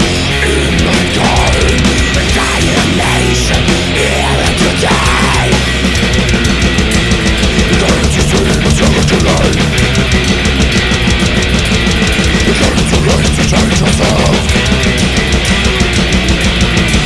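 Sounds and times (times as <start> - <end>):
bass: 0.0 - 17.0
distorted electric guitars: 0.0 - 17.0
fast dense drumming: 0.0 - 17.0.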